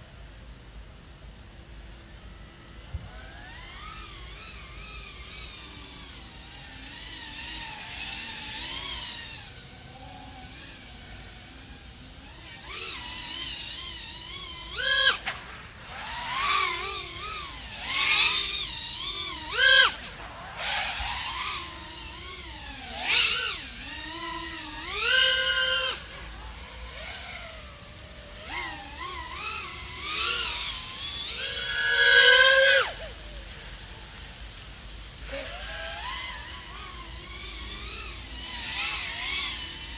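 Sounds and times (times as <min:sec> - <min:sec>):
quadcopter motors whining: 0:00.2 - 0:39.9.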